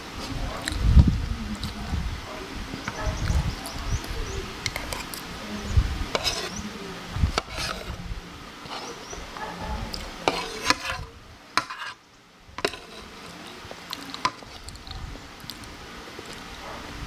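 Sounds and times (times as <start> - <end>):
wet chewing: 0.2 - 8.0, 8.6 - 12.0, 12.6 - 17.0.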